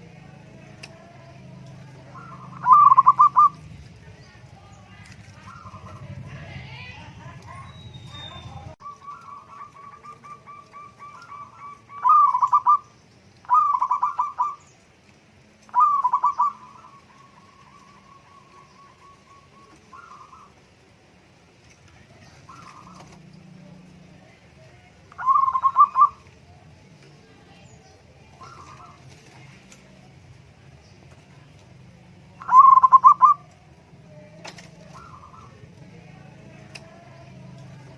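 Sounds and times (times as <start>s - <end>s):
dove cooing: 0.2s - 14.9s, 15.7s - 21.0s, 22.0s - 30.3s, 31.0s - 37.9s
dove trilling: 0.6s - 37.9s.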